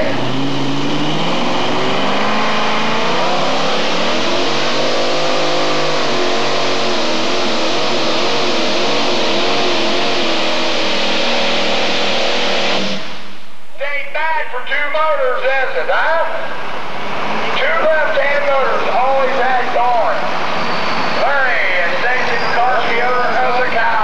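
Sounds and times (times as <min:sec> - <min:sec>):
pulling tractor engine at full power: 0:00.0 - 0:13.2, 0:16.1 - 0:24.0.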